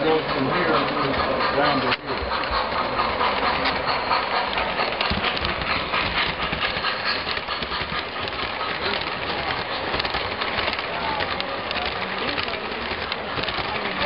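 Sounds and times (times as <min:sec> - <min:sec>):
model train wheels rumbling: 0:00.0 - 0:14.0.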